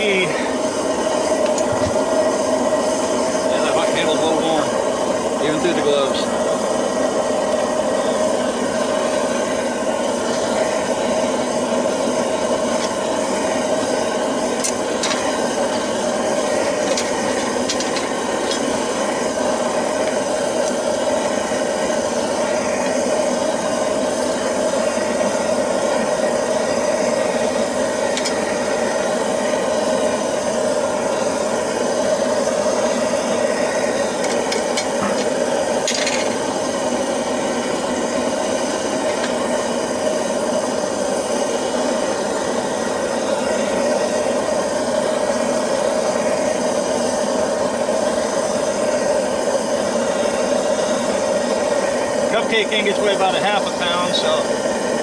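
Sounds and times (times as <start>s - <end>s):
burner rushing noise: 0.0s - 55.0s.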